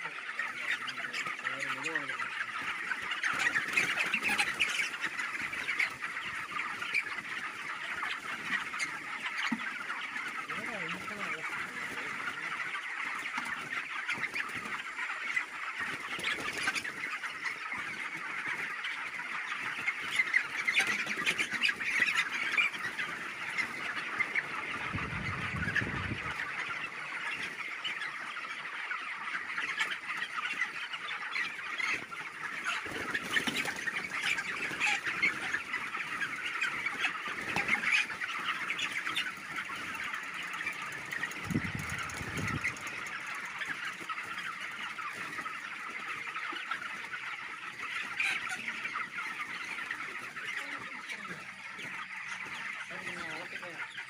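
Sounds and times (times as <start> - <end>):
flock of chickens calling: 0.0 - 54.0.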